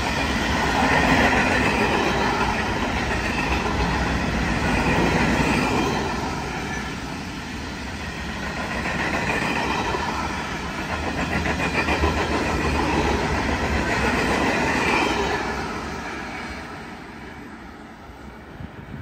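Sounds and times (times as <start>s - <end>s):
freight train wheels on track: 0.0s - 19.0s.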